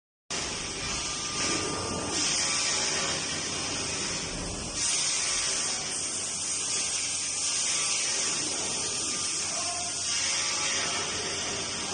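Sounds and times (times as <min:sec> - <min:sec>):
cnc machine cutting metal: 0:00.3 - 0:11.9.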